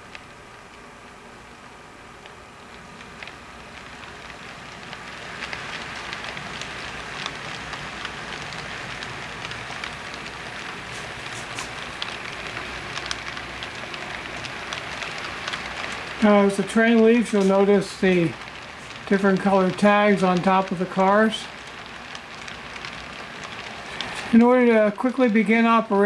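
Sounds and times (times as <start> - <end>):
model train wheels clattering: 3.0 - 26.0.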